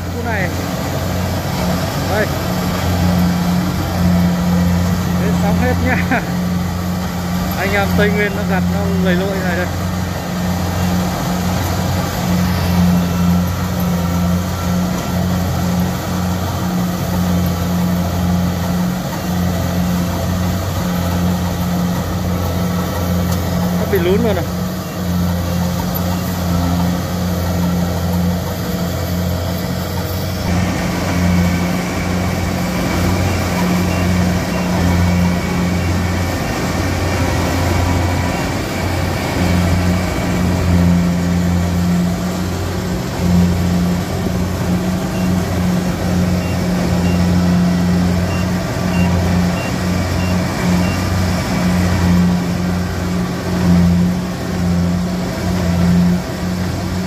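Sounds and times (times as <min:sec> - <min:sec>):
farm vehicle engine straining: 0:00.0 - 0:57.0.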